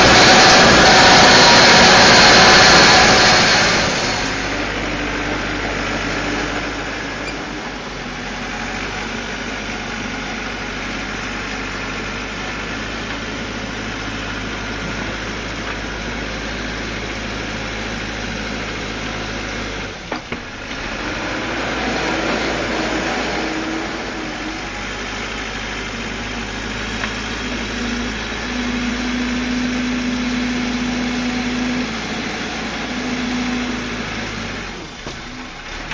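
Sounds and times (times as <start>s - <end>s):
high steady whine: 0.0s - 20.7s, 21.6s - 34.8s
diesel engine running: 0.0s - 35.9s.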